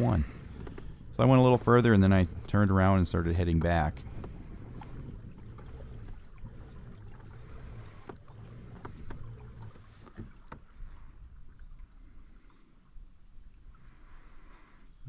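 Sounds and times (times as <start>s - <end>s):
pedal drive churning water: 0.0s - 15.0s.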